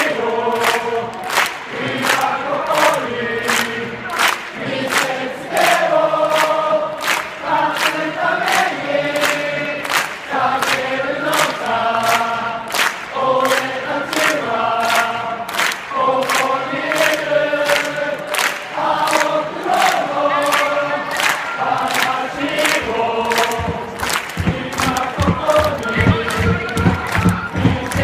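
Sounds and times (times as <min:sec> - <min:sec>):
crowd chanting in unison: 0:00.0 - 0:28.0
rhythmic hand claps: 0:00.0 - 0:28.0.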